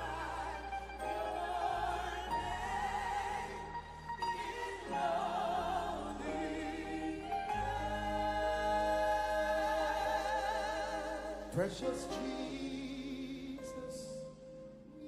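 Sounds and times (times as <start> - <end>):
person singing with vibrato: 0.0 - 14.2
bass: 0.0 - 15.0
sustained keyboard chords: 0.0 - 15.0.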